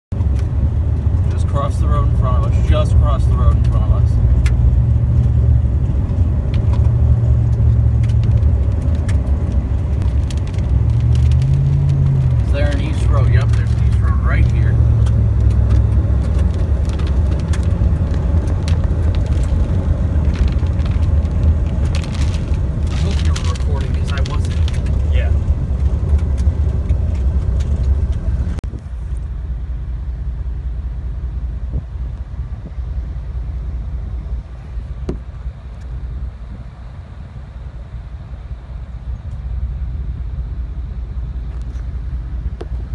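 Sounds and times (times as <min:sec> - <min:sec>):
car engine rumble from inside cabin: 0:00.1 - 0:42.9.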